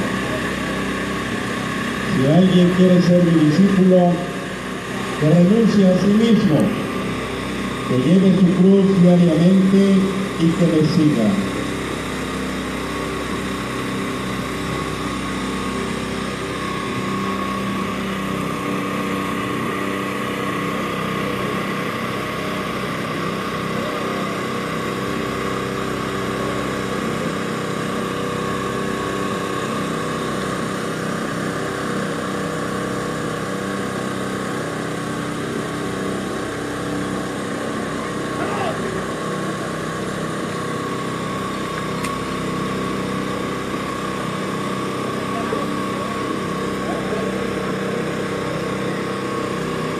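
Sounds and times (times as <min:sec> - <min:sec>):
small engine running: 0:00.0 - 0:49.9
thin steady whine: 0:00.0 - 0:49.9.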